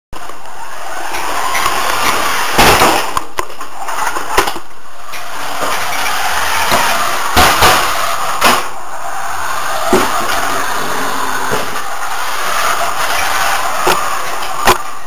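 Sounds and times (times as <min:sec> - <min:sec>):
radio-controlled car running: 0:00.2 - 0:15.0.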